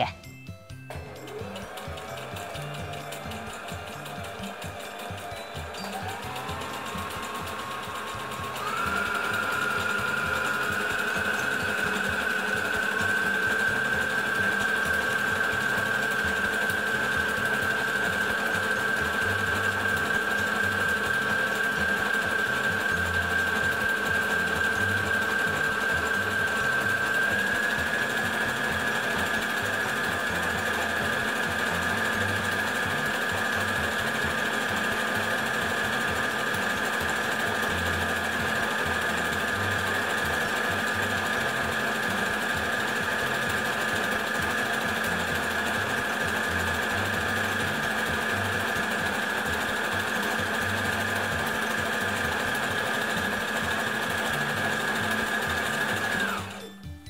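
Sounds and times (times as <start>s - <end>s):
sewing machine running: 0.9s - 57.0s.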